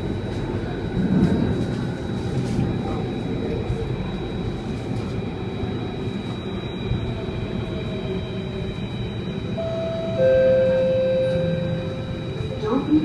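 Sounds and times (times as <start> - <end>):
metro train cabin rumble: 0.0 - 13.0
steady train whine: 0.0 - 13.0.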